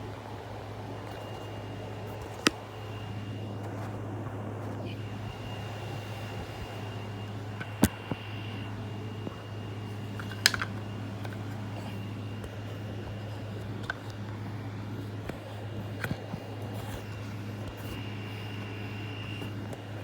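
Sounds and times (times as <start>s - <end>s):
toy train motor humming: 0.0s - 20.0s.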